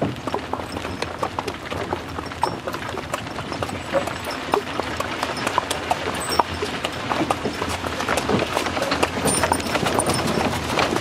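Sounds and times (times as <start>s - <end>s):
horse hooves clip-clopping on asphalt: 0.0s - 11.0s.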